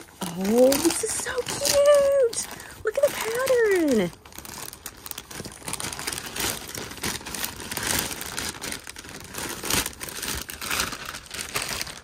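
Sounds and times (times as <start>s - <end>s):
plastic mailer bag crinkling: 0.0s - 12.0s.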